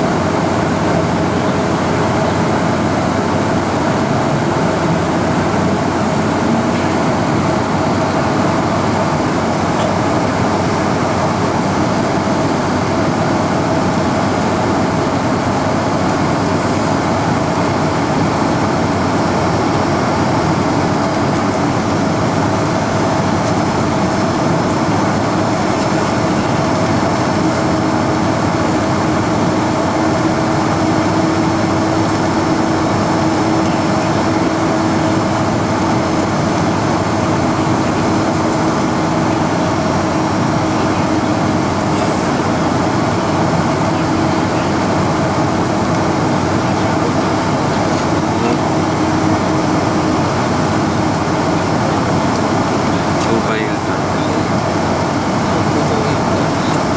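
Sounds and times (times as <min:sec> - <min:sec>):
aircraft engine drone: 0:00.0 - 0:56.9
airflow rushing: 0:00.0 - 0:56.9.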